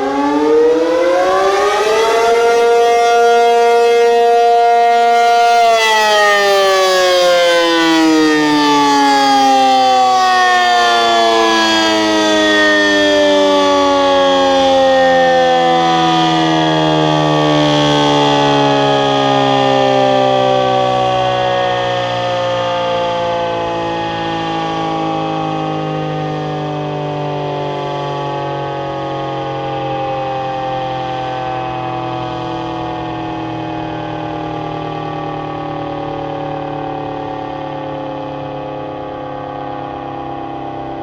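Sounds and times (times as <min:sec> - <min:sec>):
storm warning siren: 0:00.0 - 0:41.0.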